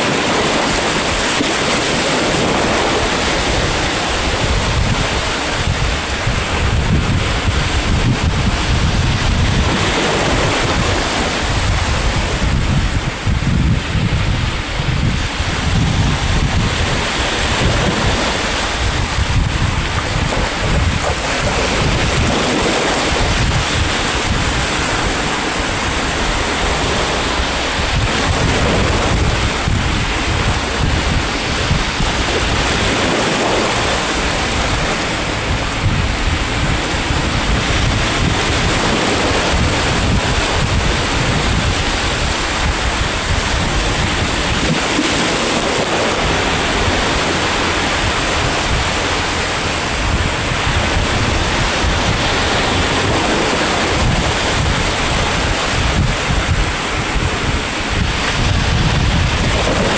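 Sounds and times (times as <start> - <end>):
sea waves breaking on shore: 0.0 - 59.9
wind buffeting microphone: 0.0 - 59.9.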